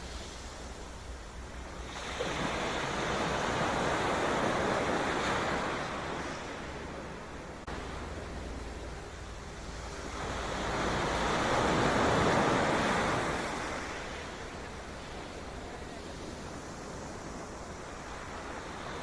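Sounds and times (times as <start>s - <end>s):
low rumble of surf: 0.0s - 19.0s
wave crashing on shore: 0.0s - 19.0s.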